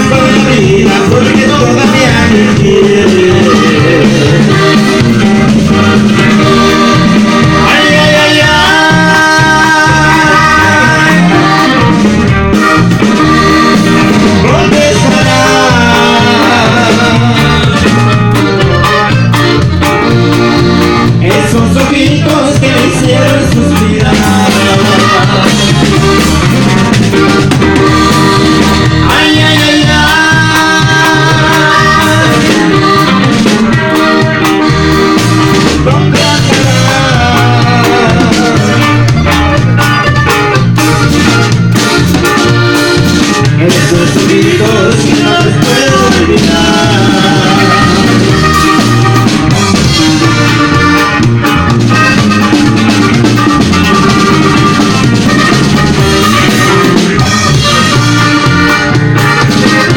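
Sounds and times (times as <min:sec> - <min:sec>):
accordion melody: 0:00.0 - 0:59.9
steady bass line: 0:00.0 - 0:59.9.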